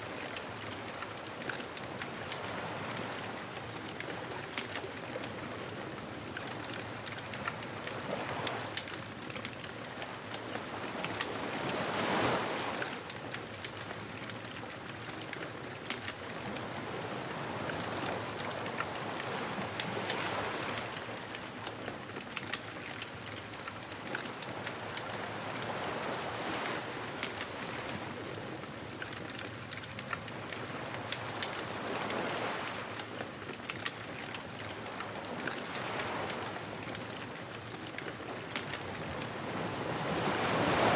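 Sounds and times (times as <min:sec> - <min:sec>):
crackling wood bonfire: 0:00.0 - 0:40.9
ocean waves washing onto beach: 0:00.0 - 0:40.9.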